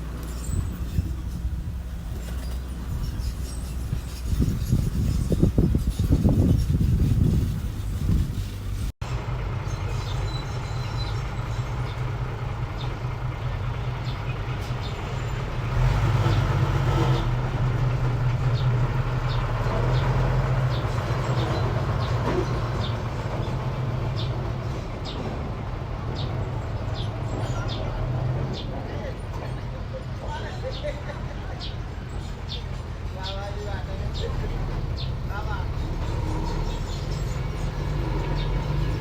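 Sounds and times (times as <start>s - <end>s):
diesel engine running: 0.0s - 30.1s, 31.3s - 39.0s.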